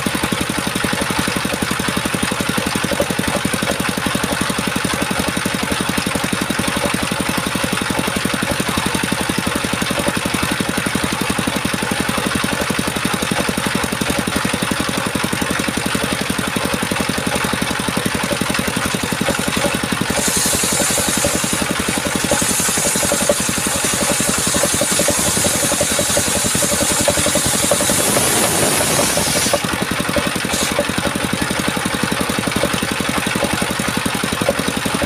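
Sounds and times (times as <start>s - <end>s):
chainsaw engine running: 0.0s - 35.0s.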